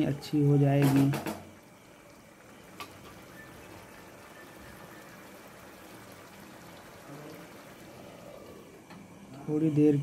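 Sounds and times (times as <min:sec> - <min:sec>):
gravy bubbling in a frying pan: 0:00.0 - 0:10.0.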